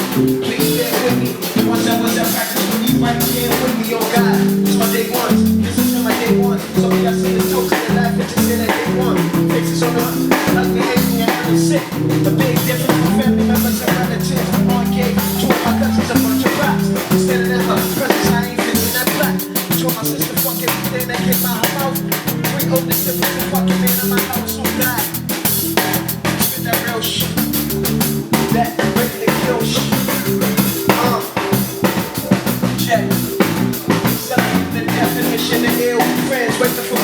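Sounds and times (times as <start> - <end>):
band playing hip-hop groove: 0.0 - 37.0
drum kit beat: 0.0 - 37.0.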